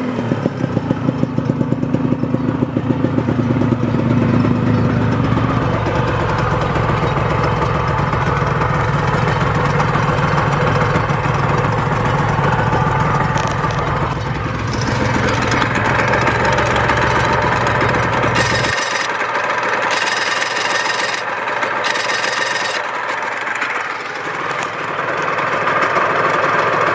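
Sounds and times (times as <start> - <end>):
motorcycle engine running steadily: 0.0 - 26.9.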